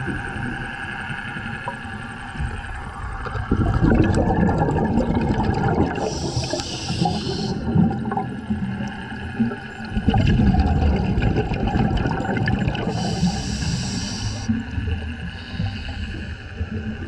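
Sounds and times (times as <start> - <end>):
underwater bubbles gurgling: 0.0 - 17.0
underwater hum: 0.0 - 17.0.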